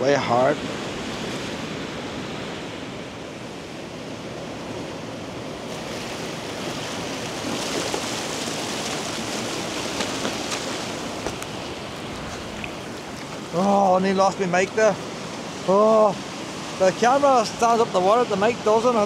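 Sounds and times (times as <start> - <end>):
surf washing up shore: 0.0 - 19.0.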